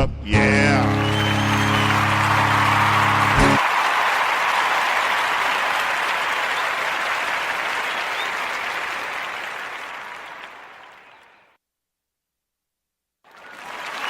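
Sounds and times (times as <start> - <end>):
applause: 0.8 - 11.6, 13.3 - 14.0.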